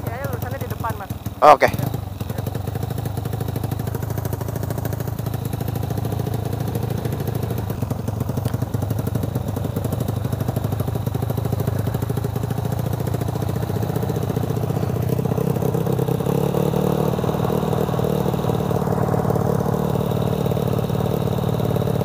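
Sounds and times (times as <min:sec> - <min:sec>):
scooter engine idling: 0:00.0 - 0:22.0.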